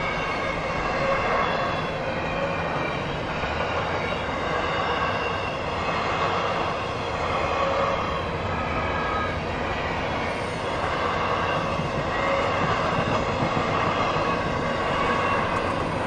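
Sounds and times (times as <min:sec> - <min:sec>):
freight train cars rumbling on rails: 0:00.0 - 0:16.0.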